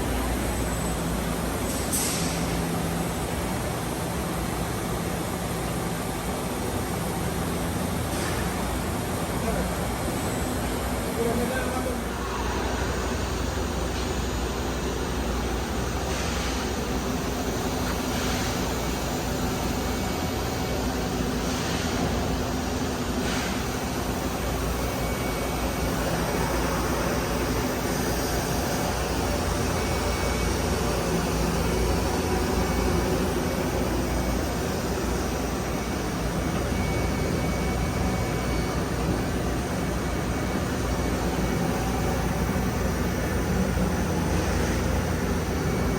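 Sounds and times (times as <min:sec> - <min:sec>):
machine running with low hum: 0:00.0 - 0:45.9.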